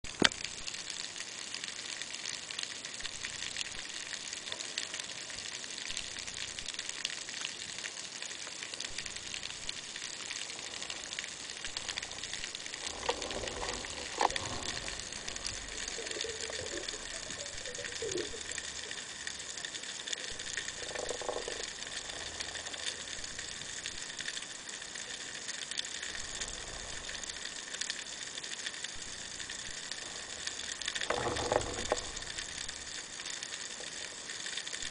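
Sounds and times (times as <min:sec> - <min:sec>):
fine crackling hiss underwater: 0:00.0 - 0:34.9.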